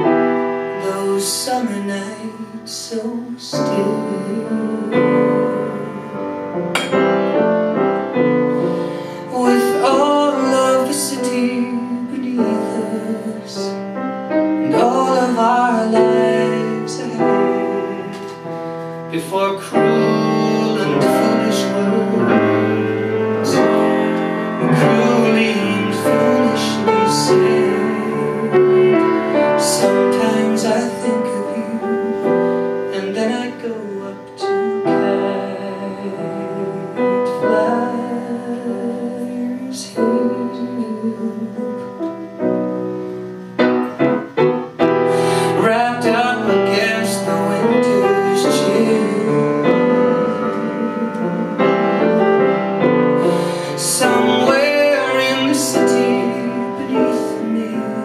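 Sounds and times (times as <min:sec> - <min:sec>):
piano accompaniment: 0:00.0 - 0:58.0
man singing a slow ballad: 0:00.7 - 0:07.1, 0:08.5 - 0:13.8, 0:14.6 - 0:42.0, 0:45.0 - 0:52.3, 0:53.2 - 0:58.0.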